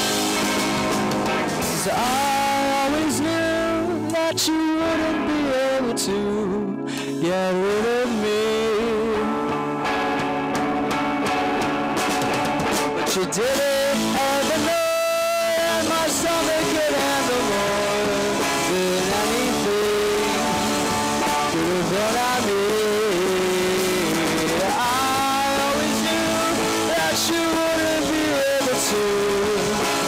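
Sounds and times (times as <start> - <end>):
lead guitar bending notes: 0.0 - 30.0
live rock band playing: 0.0 - 30.0.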